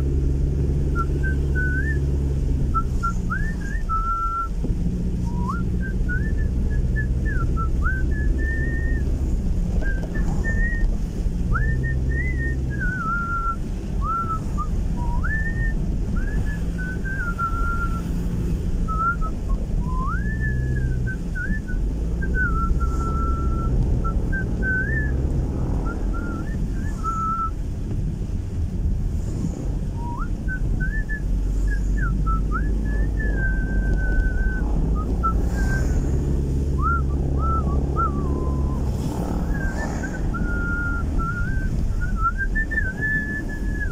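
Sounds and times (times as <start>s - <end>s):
car cabin rumble: 0.0s - 43.9s
person whistling a tune: 0.9s - 4.6s, 5.2s - 9.1s, 9.8s - 18.2s, 18.8s - 27.6s, 29.9s - 36.1s, 36.7s - 43.9s.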